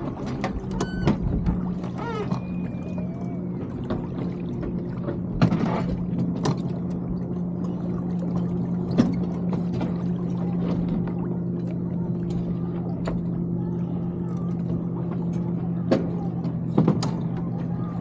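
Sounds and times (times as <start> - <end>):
water washing along a hull: 0.0 - 18.0.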